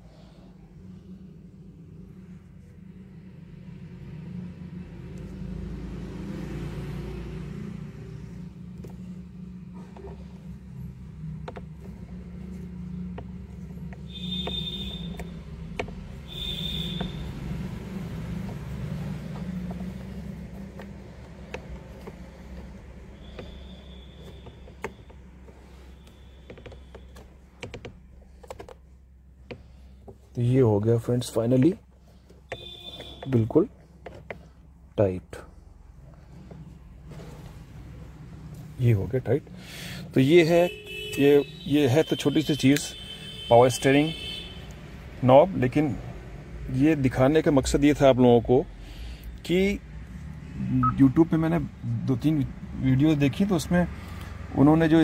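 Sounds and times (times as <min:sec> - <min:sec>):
motor vehicle rumble: 0:00.0 - 0:41.0, 0:44.6 - 0:55.0.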